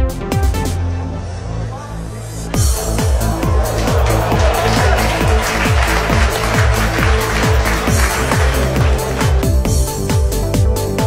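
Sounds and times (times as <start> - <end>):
electronic dance music: 2.0 - 11.0.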